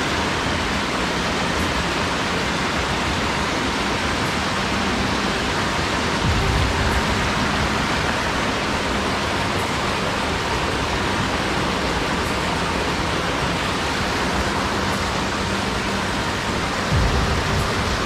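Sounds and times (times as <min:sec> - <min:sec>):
rushing stream water: 0:00.0 - 0:18.0.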